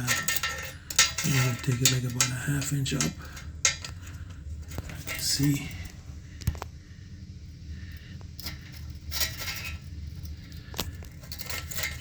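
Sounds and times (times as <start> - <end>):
small hard parts clicking: 0.0 - 6.6, 7.9 - 12.0
faint low hum: 0.0 - 12.0.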